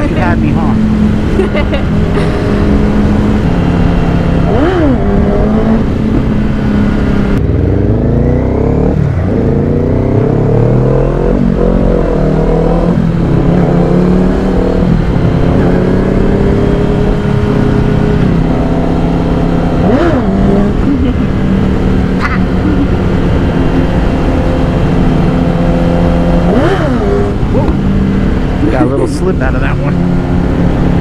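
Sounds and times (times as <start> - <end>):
motorcycle engines accelerating: 0.0 - 31.0.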